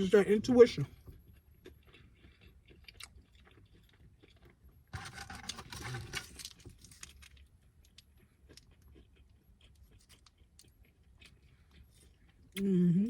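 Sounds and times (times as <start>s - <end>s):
chewing and mouth sounds: 0.9s - 4.7s, 6.0s - 12.7s
noisy crunching: 1.7s - 12.2s.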